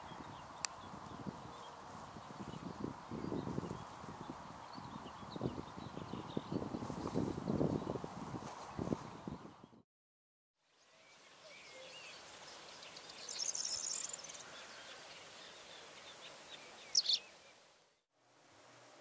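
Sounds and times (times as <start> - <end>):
small birds chirping: 0.0 - 8.0, 10.8 - 18.0.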